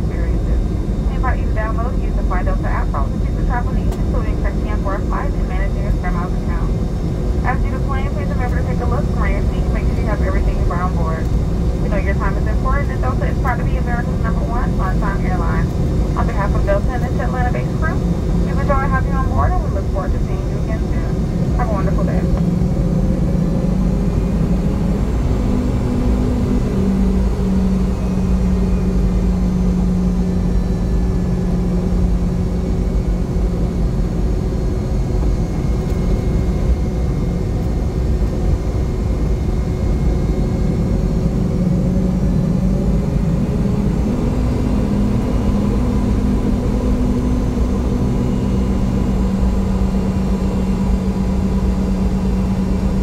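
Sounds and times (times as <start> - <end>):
jet engines humming in cabin: 0.0 - 53.0.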